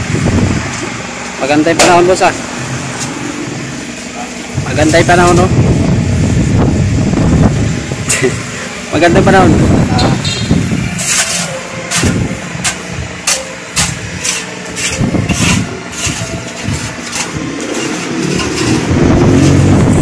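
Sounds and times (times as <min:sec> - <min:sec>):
loud low rumble: 0:00.0 - 0:03.8, 0:04.4 - 0:14.3, 0:14.9 - 0:20.0
engine running: 0:00.0 - 0:20.0.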